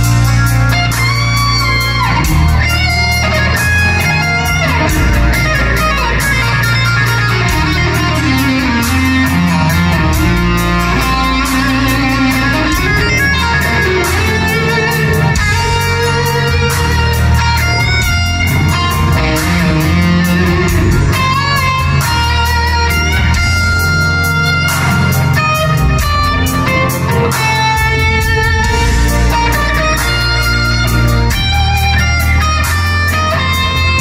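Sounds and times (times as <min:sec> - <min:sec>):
bass guitar: 0:00.0 - 0:34.0
electric guitar lead melody: 0:00.0 - 0:34.0
steady drum beat: 0:00.0 - 0:34.0.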